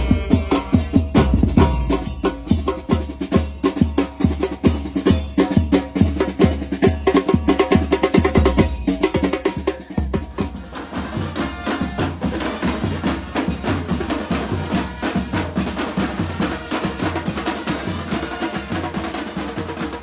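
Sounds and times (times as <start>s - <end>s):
snare drum strokes and rolls: 0.0s - 20.0s.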